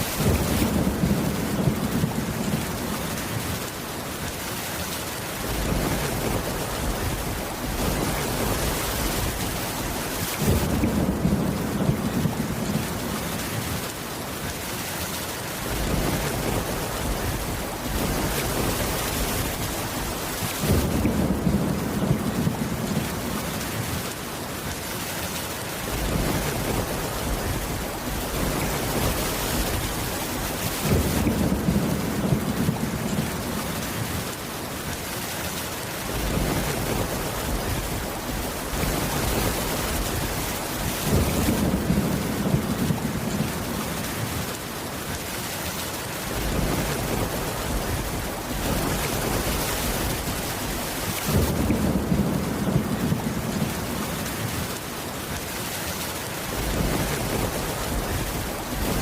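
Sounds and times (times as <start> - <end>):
low rumble of thunder: 0.0 - 3.8, 5.4 - 14.0, 15.6 - 24.2, 25.8 - 34.4, 36.0 - 44.7, 46.3 - 54.8, 56.4 - 59.0
heavy rain: 0.0 - 59.0.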